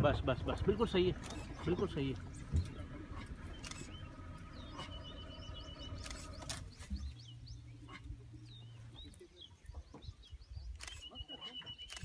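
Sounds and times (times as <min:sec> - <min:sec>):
low steady rumble: 0:00.0 - 0:10.8
small birds chirping: 0:00.0 - 0:12.0.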